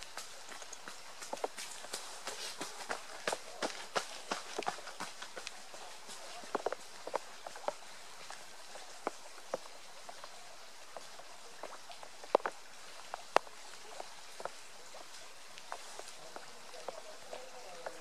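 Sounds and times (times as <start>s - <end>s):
runners' footsteps on path: 0.0s - 18.0s.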